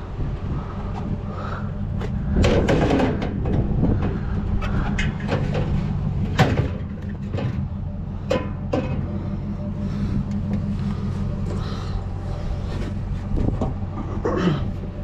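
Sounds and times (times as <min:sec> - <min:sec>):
low engine hum: 0:00.0 - 0:15.0
scrap metal clanking and rattling: 0:01.9 - 0:14.2.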